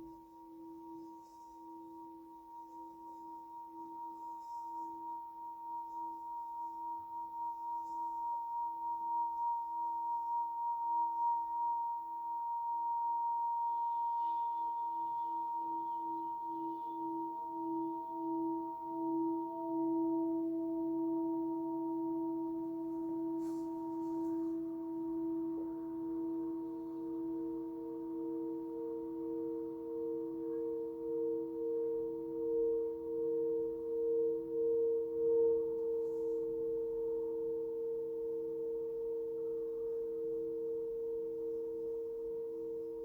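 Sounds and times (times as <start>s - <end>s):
singing bowls ringing: 0.0s - 43.0s.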